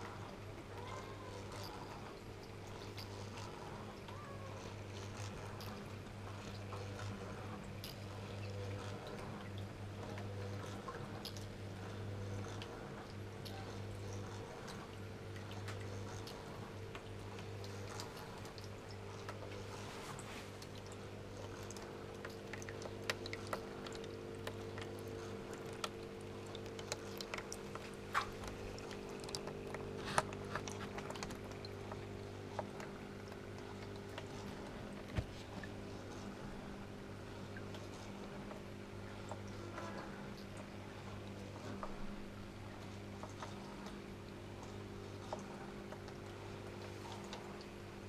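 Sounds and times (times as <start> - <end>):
electrical motor hum: 0.0 - 48.0.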